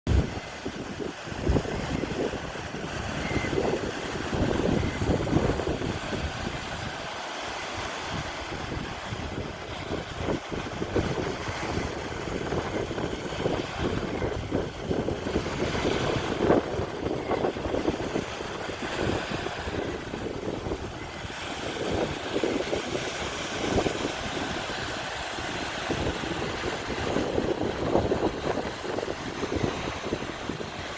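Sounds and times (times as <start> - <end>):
sea waves washing: 0.1 - 30.9
wind buffeting microphone: 0.1 - 30.9.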